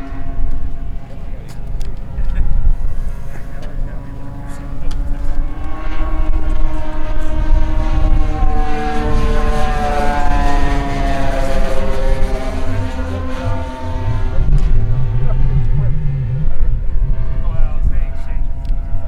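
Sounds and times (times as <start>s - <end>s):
model aircraft propellers humming: 0.0s - 19.0s.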